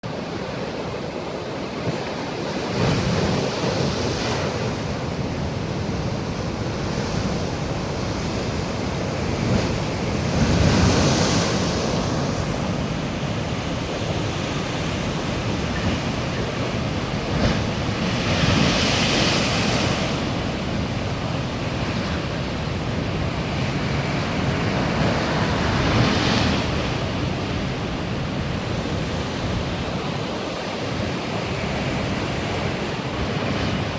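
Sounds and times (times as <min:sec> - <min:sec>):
steady wash of surf: 0:00.0 - 0:33.9
sea waves breaking: 0:00.1 - 0:33.9.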